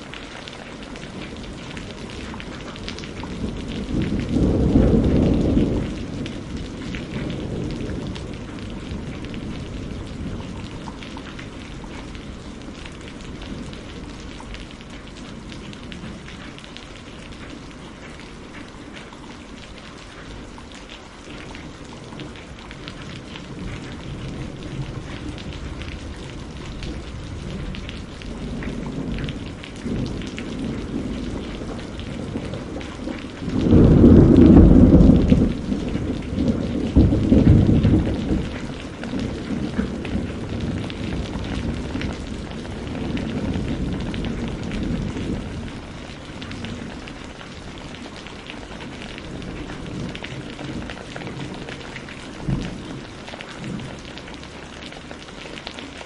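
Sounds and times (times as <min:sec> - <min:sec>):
thunder rumbling: 0:00.0 - 0:18.7, 0:19.4 - 0:55.3
steady rain falling: 0:00.0 - 0:56.0.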